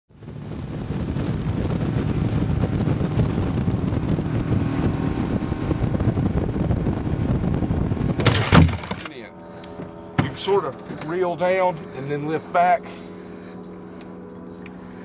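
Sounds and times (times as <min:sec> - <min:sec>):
wind buffeting microphone: 0:00.1 - 0:12.6
boat motor running: 0:00.1 - 0:15.0.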